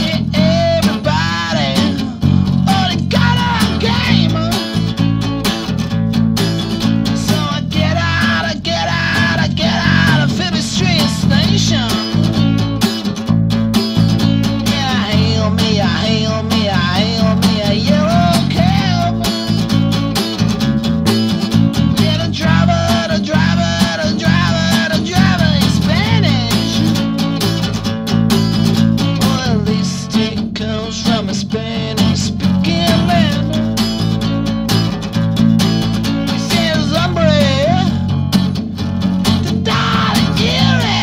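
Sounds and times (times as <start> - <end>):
strummed acoustic guitar: 0.0 - 41.0.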